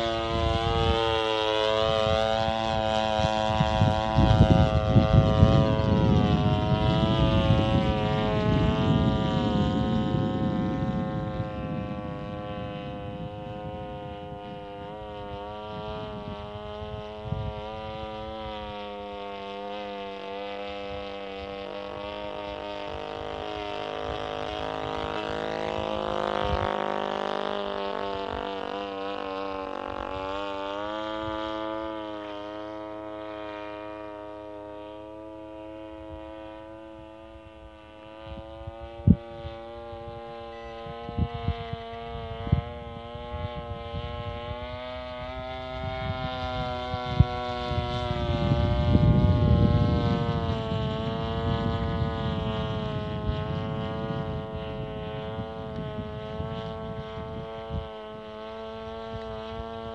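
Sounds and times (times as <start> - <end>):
model airplane engine drone: 0.0 - 59.9.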